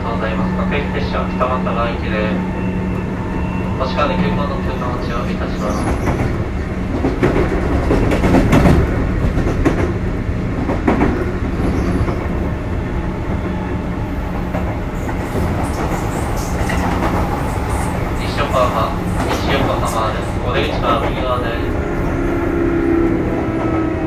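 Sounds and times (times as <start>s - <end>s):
train rumble and hum: 0.0s - 24.0s.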